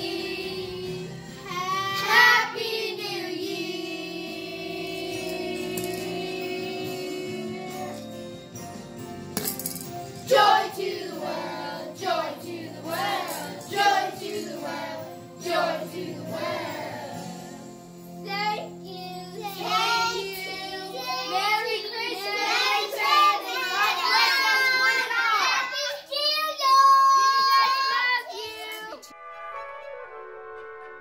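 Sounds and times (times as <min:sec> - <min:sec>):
children singing: 0:00.0 - 0:08.1, 0:10.2 - 0:17.4, 0:18.3 - 0:29.0
backing music: 0:00.0 - 0:25.4, 0:28.4 - 0:31.0.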